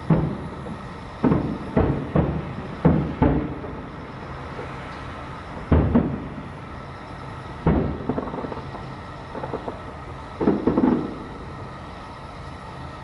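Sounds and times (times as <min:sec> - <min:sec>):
distant firework shells bursting: 0:00.0 - 0:11.8.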